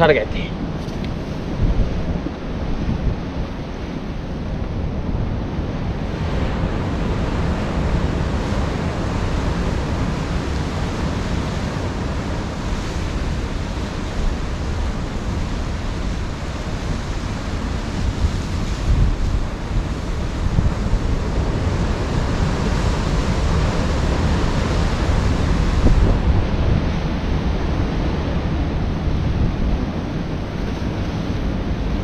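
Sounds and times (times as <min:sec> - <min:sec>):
rough sea surf: 0:00.0 - 0:32.0
wind buffeting microphone: 0:00.0 - 0:32.0.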